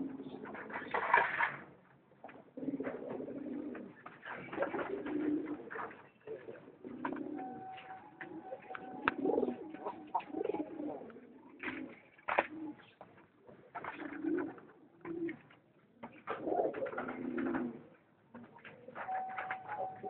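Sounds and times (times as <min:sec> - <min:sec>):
pigeons cooing: 0:00.0 - 0:01.5, 0:02.3 - 0:13.0, 0:13.6 - 0:20.0.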